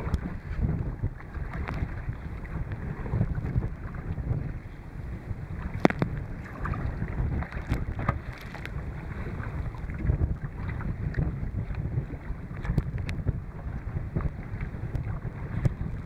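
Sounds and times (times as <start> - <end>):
water splashing from paddling: 0.0 - 16.0
wind buffeting microphone: 0.0 - 16.0.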